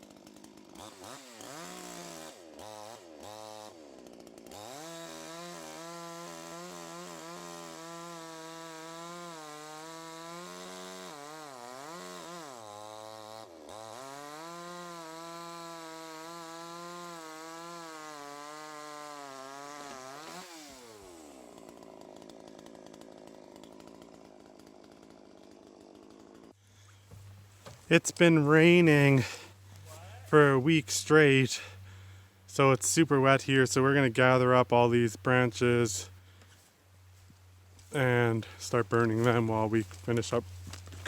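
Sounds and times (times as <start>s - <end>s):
chainsaw cutting log: 0.0s - 41.0s
chainsaw idling: 0.0s - 41.0s.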